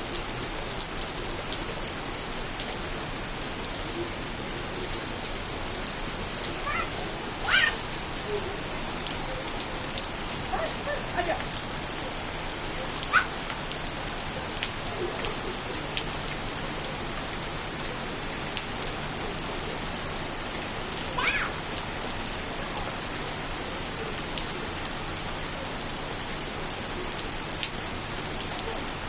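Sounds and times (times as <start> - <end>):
rain pattering: 0.0 - 29.0
water dripping: 0.1 - 29.0.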